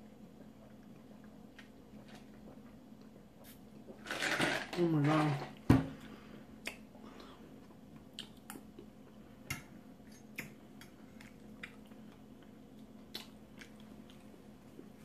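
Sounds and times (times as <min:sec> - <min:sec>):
soft chewing: 0:00.0 - 0:04.0, 0:06.1 - 0:15.0
faint low hum: 0:00.0 - 0:15.0.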